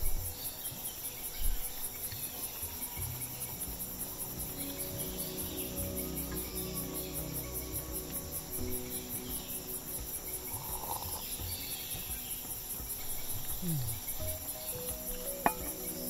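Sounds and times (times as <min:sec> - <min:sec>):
insects pulsing trill: 0:00.0 - 0:16.0.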